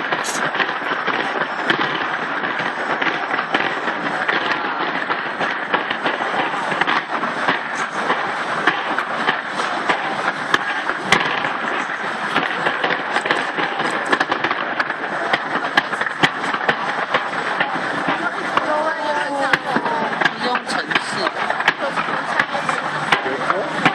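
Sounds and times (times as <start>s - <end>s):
fireworks popping and banging: 0.0s - 23.9s
large crowd noise: 0.0s - 23.9s.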